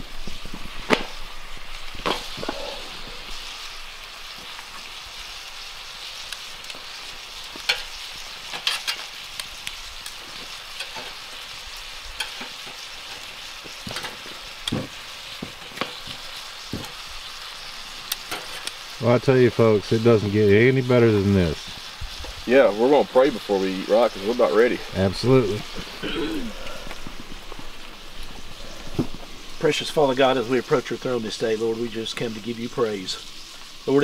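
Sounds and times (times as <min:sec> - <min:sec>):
vegetables sizzling in skillet: 0:00.0 - 0:34.0.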